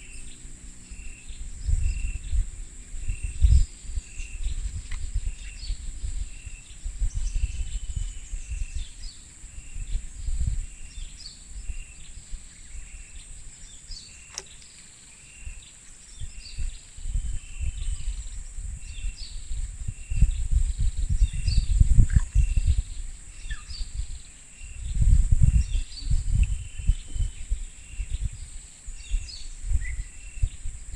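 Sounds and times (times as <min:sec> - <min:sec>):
high insect drone: 0:00.0 - 0:30.9.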